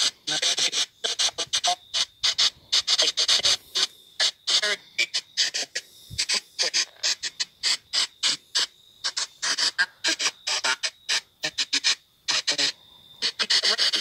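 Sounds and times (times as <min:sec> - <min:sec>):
broken voice fragments: 0:00.0 - 0:14.0
radio static bursts: 0:00.0 - 0:14.0.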